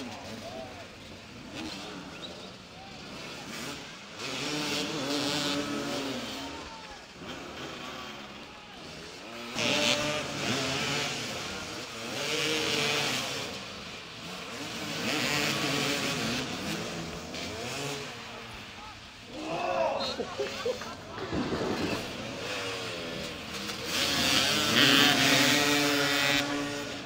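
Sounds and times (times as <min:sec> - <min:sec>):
motorcycles revving: 0:00.0 - 0:27.0.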